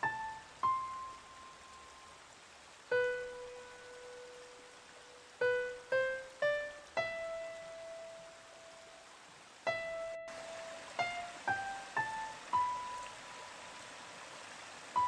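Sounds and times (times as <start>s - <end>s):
slow piano melody: 0.0s - 13.8s.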